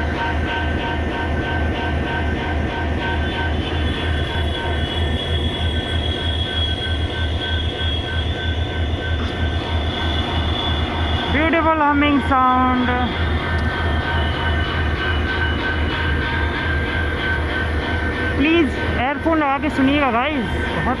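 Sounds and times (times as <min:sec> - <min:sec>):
diesel locomotive engine humming: 0:00.0 - 0:21.0.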